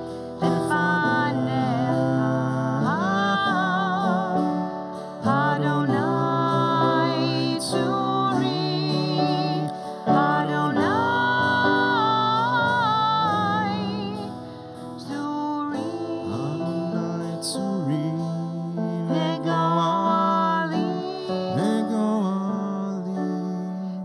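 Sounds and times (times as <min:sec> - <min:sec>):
instrumental accompaniment: 0:00.0 - 0:24.0
person singing with vibrato: 0:00.0 - 0:24.0.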